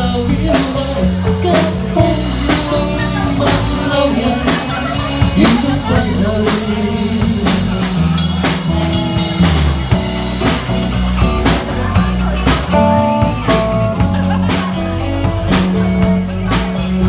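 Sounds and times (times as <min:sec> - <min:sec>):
drum kit beat: 0:00.0 - 0:17.0
live band playing pop ballad: 0:00.0 - 0:17.0.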